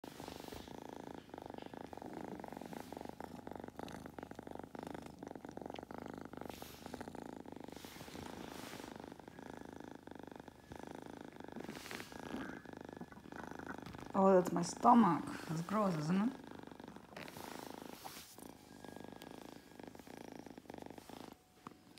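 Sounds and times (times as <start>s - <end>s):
kitten purring: 0.0s - 21.9s.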